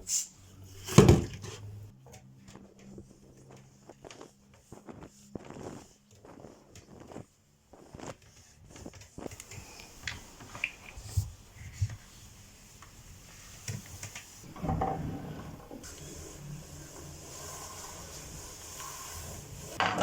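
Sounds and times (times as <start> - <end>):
rustling and rubbing: 0.7 - 19.8.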